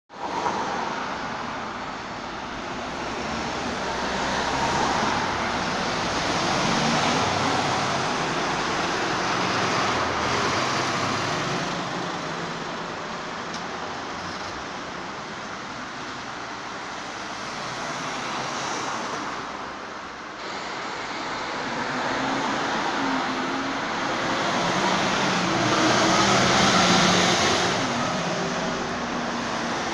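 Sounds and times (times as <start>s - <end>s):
vehicles passing on street: 0.1s - 29.9s.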